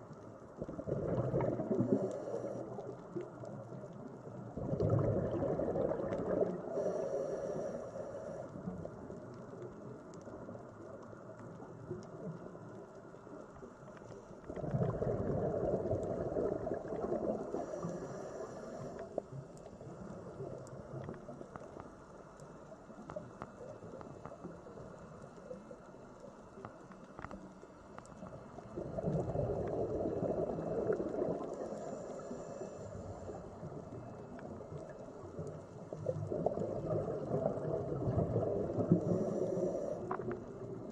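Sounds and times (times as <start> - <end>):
faint clicks: 0.0 - 40.9
muffled underwater water noise: 0.0 - 40.9.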